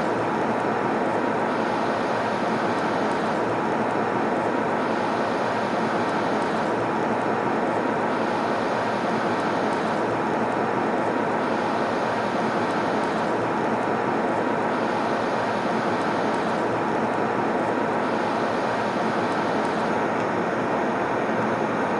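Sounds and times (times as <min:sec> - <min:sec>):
airplane cabin engine rush: 0:00.0 - 0:21.9
faint steady whine: 0:00.0 - 0:21.9.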